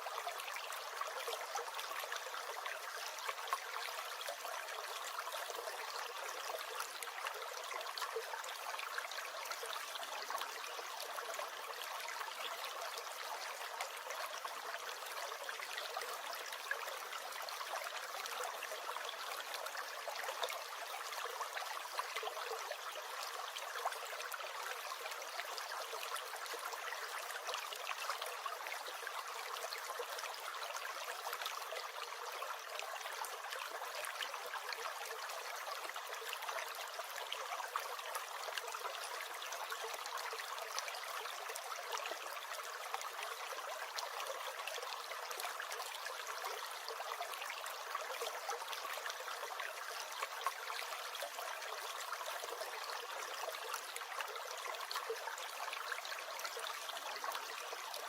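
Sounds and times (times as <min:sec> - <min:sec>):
stream gurgling: 0:00.0 - 0:58.0.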